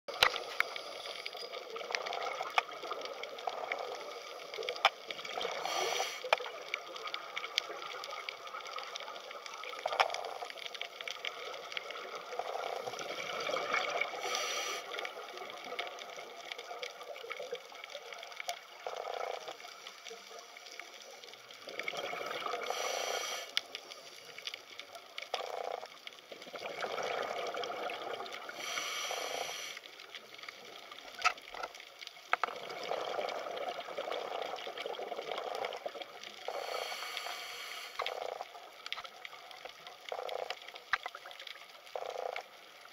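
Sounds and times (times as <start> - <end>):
underwater gurgling and bubbling: 0.1 - 42.9.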